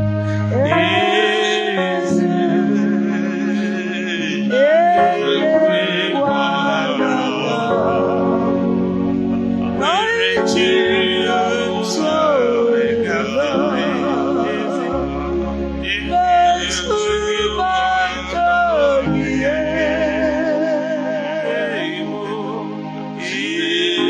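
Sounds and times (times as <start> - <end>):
keyboard: 0.0 - 24.0
person singing with vibrato: 0.0 - 24.0
sustained bass notes: 0.0 - 24.0.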